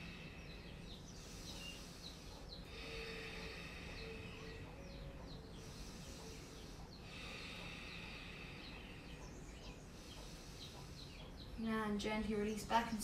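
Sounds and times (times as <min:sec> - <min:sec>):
low background noise: 0:00.0 - 0:13.0
small birds chirping: 0:00.0 - 0:13.0.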